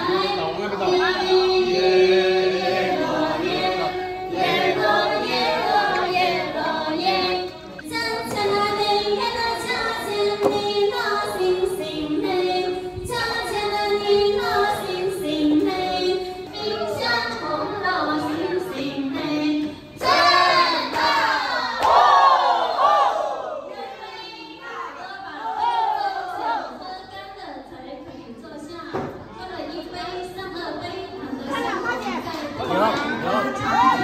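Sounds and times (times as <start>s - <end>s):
women singing together: 0.0s - 27.7s.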